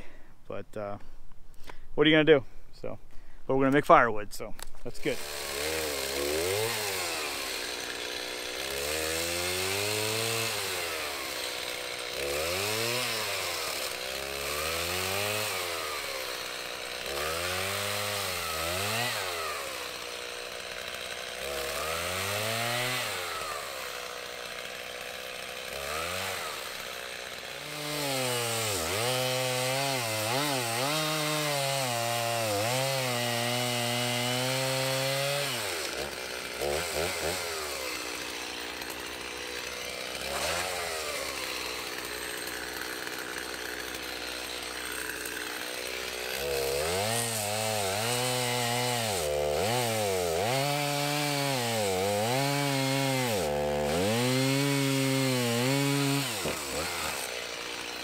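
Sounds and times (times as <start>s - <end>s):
chainsaw cutting wood: 3.1s - 58.0s.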